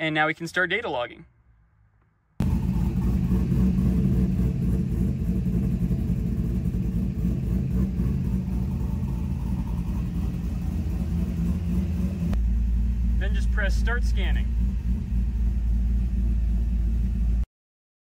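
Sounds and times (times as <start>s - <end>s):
car engine idling: 2.4s - 17.4s.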